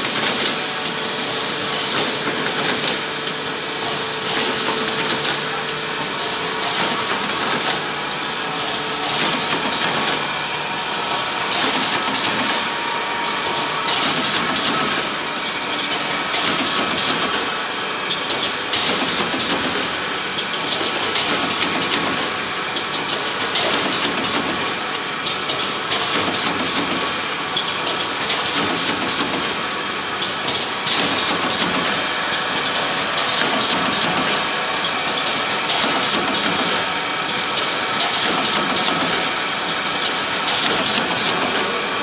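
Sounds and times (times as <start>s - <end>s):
machine clattering: 0.0s - 15.2s, 15.8s - 17.5s, 18.1s - 42.0s.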